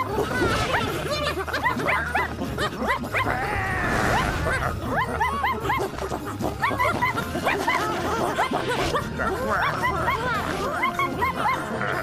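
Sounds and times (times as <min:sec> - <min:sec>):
background music: 0:00.0 - 0:12.0
cartoon puppies barking: 0:00.0 - 0:12.0.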